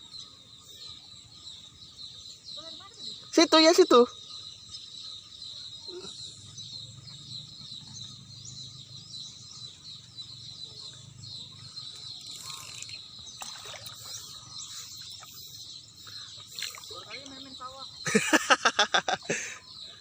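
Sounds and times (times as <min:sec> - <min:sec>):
bird chirps: 0:00.0 - 0:20.0
insects droning: 0:00.0 - 0:20.0.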